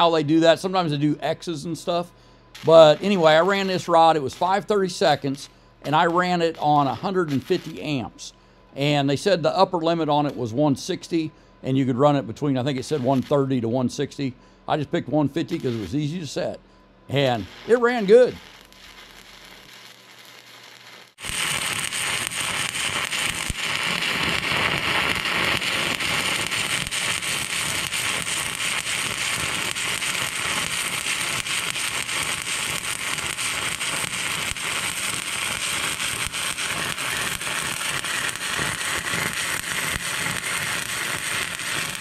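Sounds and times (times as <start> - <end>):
welding arc crackling and hissing: 0.0 - 10.5, 12.1 - 42.0.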